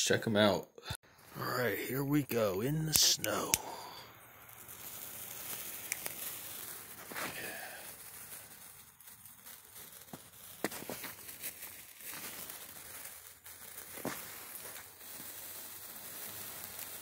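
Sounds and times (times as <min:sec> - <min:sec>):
sparkler fizzing and crackling: 0:01.0 - 0:17.0.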